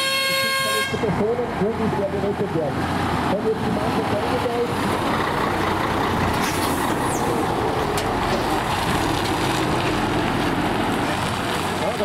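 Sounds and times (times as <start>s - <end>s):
truck diesel engine passing: 0.0s - 12.0s.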